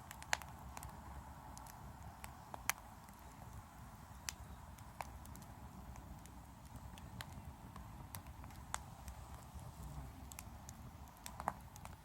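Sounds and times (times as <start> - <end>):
faint low rumble: 0.0 - 12.0
firewood crackling and popping: 0.0 - 12.0.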